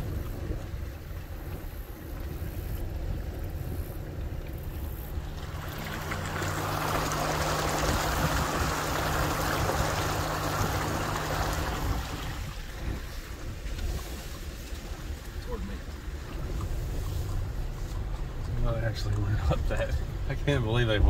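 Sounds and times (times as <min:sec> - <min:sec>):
tires splashing through water: 0:00.0 - 0:21.0
truck engine hum: 0:00.0 - 0:21.0.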